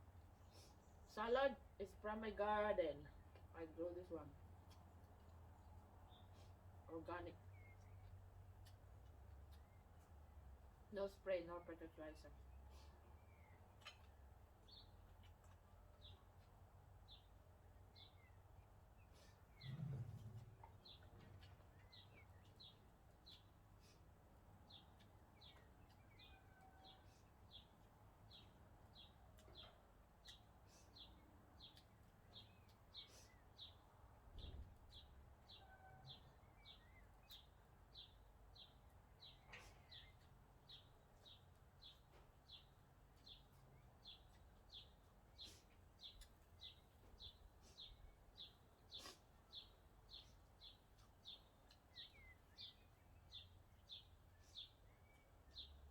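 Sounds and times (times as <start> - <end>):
outdoor background noise: 0.0 - 55.9.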